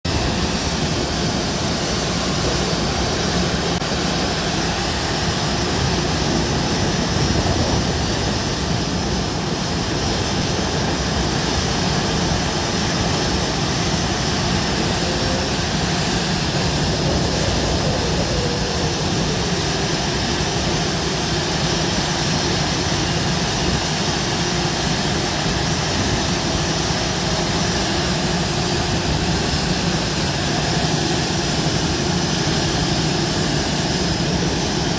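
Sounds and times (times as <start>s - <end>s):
jet engine running: 0.0s - 34.9s.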